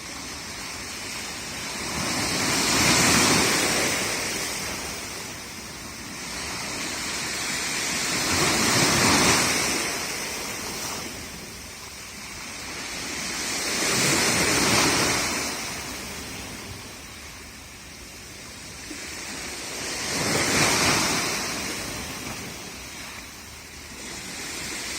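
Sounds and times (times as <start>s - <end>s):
waves breaking on shore: 0.0s - 24.9s.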